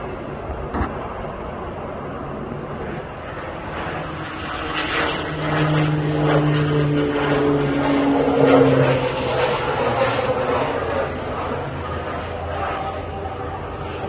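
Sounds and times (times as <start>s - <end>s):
propeller planes droning: 0.0s - 14.0s.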